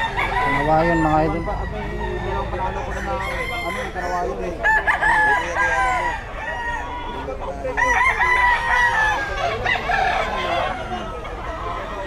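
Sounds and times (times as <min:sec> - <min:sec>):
chickens clucking: 0:00.0 - 0:12.0
roosters crowing: 0:00.0 - 0:12.0.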